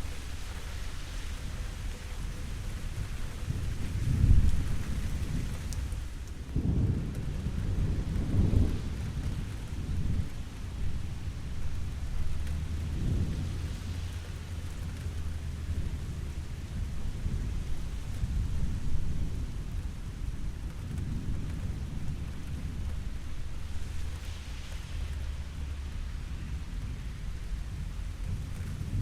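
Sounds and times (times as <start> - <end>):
steady rain falling: 0.0 - 29.0
rolling thunder rumble: 1.7 - 29.0.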